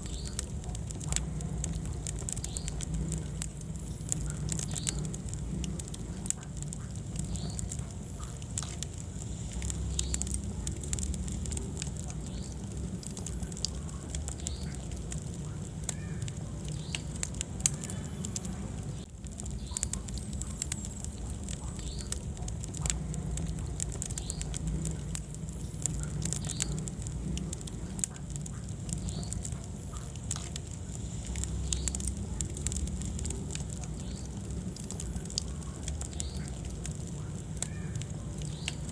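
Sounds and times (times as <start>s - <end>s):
fire crackling and popping: 0.0s - 38.9s
low rumble of flame: 0.0s - 38.9s.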